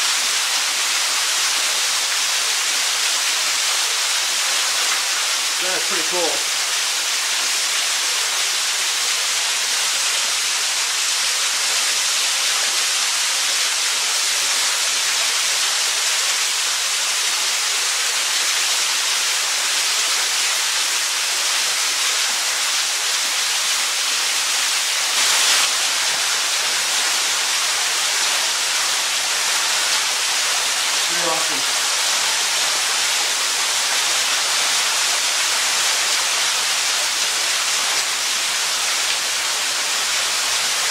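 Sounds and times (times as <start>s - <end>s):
waterfall splashing onto rocks: 0.0s - 40.9s.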